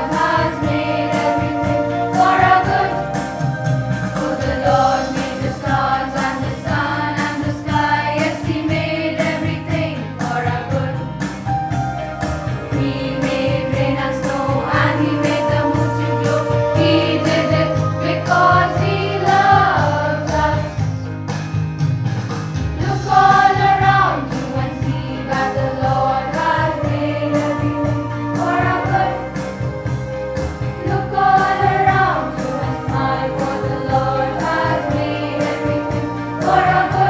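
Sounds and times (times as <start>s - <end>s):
girls choir singing a hymn: 0.0s - 11.2s, 12.7s - 21.0s, 22.8s - 30.1s, 30.7s - 37.0s.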